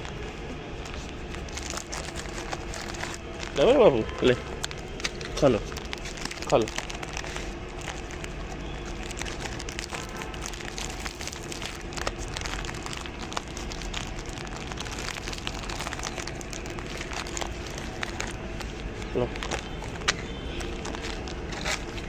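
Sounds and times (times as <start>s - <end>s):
dog crunching dry biscuits: 0.0s - 22.0s.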